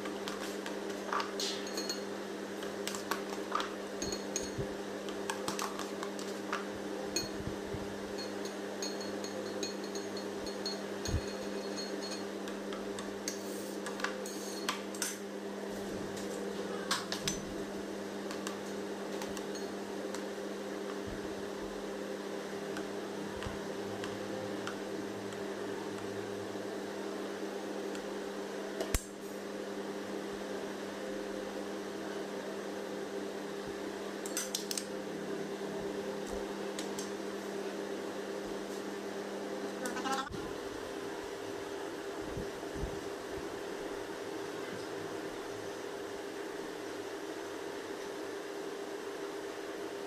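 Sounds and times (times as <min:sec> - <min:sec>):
fan hum: 0:00.0 - 0:50.0.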